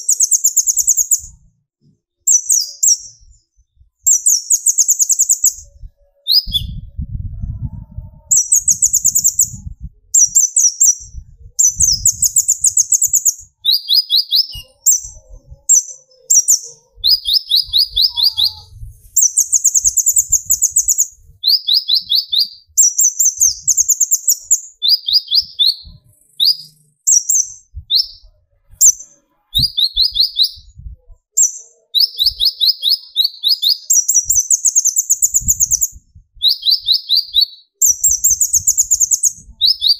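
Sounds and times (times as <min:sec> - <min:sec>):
sunbird singing fast high trills: 0:00.0 - 0:01.4, 0:04.1 - 0:07.0, 0:08.2 - 0:39.9.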